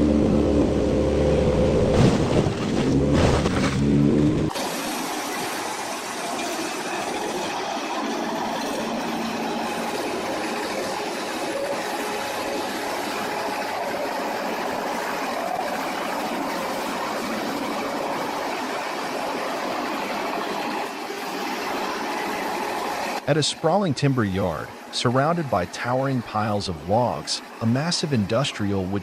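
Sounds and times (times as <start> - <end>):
wood chipper running: 0.0 - 29.0.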